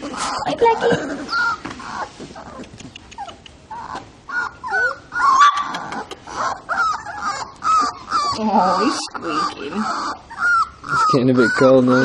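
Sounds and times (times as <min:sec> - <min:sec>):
puppies squeaking and whimpering: 0:00.0 - 0:12.0.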